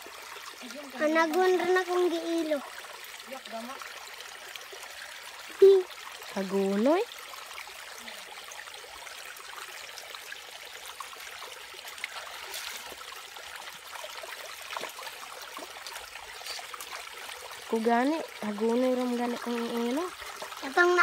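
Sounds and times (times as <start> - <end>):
stream trickling over rocks: 0.0 - 21.0.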